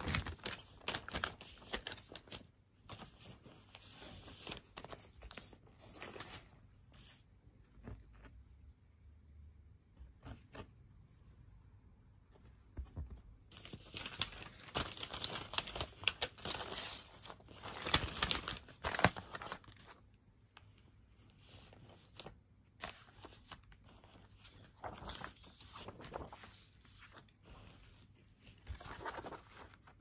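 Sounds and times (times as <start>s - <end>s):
paper rustling and crinkling: 0.0s - 8.3s, 12.7s - 30.0s.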